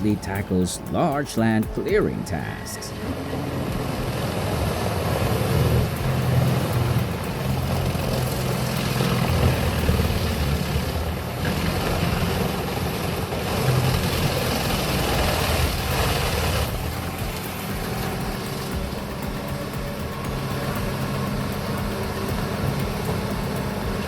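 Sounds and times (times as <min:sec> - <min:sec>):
diesel machinery engine drone: 0:00.0 - 0:24.0.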